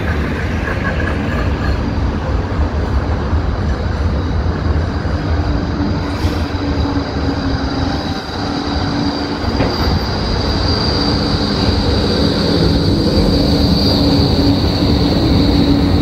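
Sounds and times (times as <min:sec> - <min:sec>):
steel tram wheels on rail: 0:00.0 - 0:16.0.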